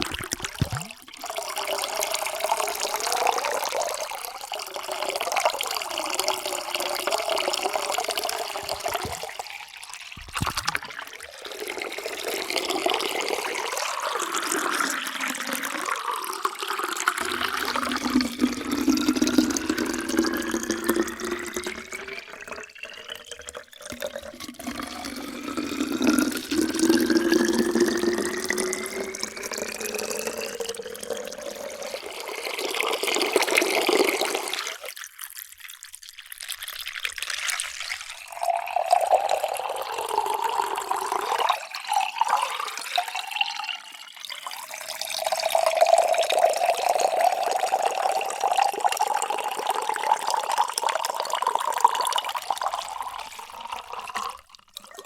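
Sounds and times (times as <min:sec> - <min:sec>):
water pouring into containers: 0:00.0 - 0:55.0.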